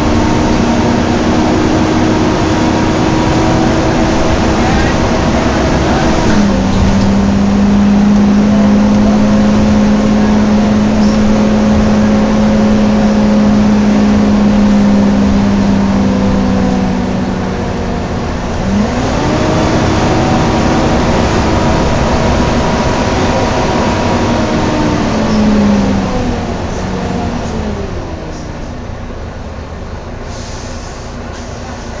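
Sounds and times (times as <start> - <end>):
bus cooling fan whine: 0.0 - 32.0
bus engine and road noise: 0.0 - 32.0.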